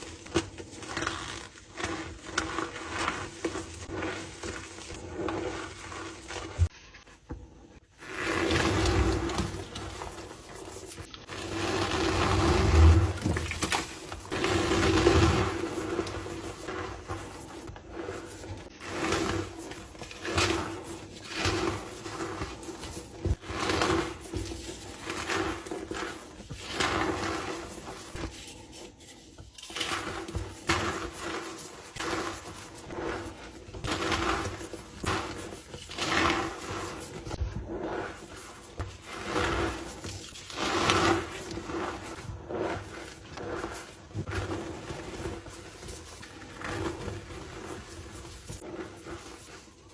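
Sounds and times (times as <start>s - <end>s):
chalk blocks crunching: 8.1s - 49.9s.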